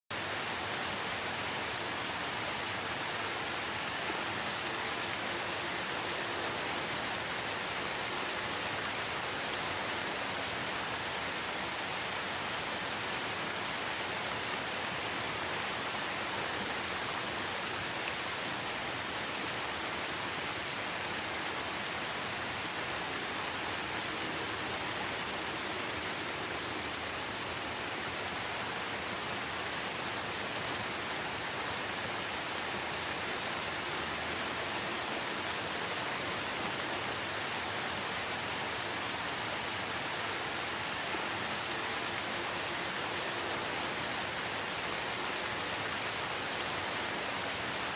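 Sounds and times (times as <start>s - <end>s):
rain falling: 0.1s - 47.9s.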